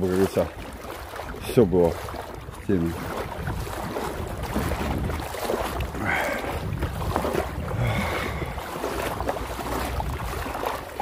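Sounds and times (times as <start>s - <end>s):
water sloshing from wading: 0.0s - 11.0s
wind buffeting microphone: 0.0s - 11.0s.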